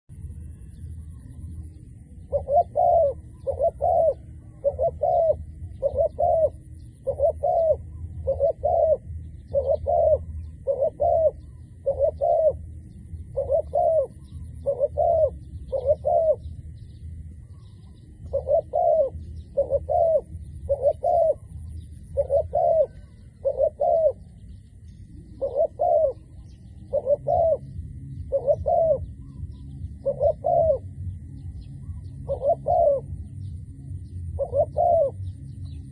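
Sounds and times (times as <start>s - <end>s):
low rumble: 0.0s - 35.9s
dove cooing: 0.1s - 35.9s.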